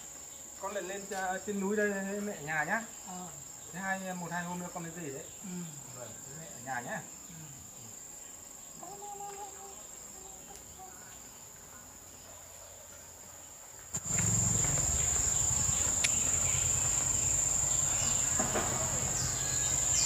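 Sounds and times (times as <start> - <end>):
high-pitched insect trill: 0.0 - 12.4, 13.9 - 20.0.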